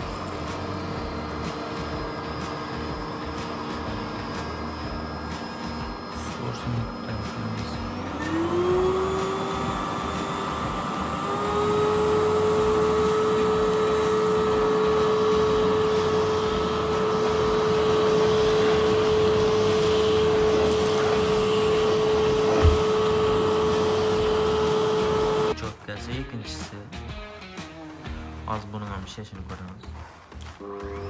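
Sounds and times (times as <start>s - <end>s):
vacuum cleaner motor whine: 0.0s - 25.7s, 29.8s - 31.0s.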